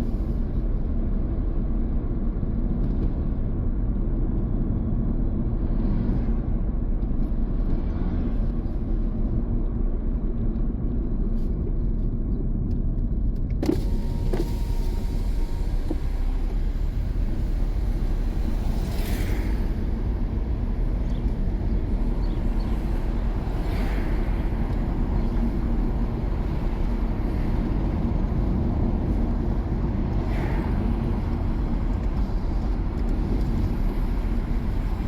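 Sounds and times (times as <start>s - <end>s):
car driving rumble: 0.0s - 35.0s.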